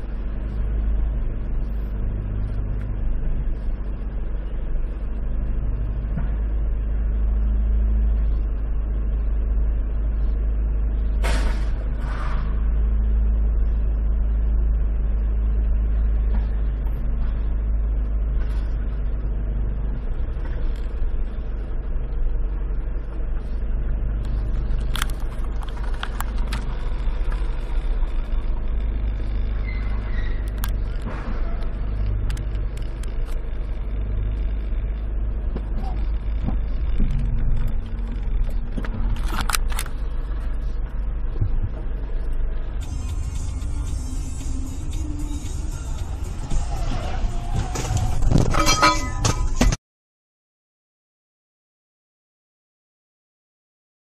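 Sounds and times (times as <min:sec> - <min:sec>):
traffic engines rumbling: 0:00.0 - 0:49.8.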